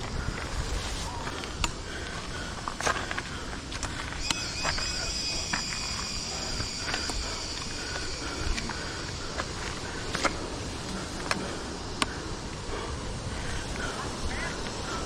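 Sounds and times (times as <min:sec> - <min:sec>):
footsteps on forest trail: 0:00.0 - 0:15.0
insect buzzing: 0:00.0 - 0:15.0.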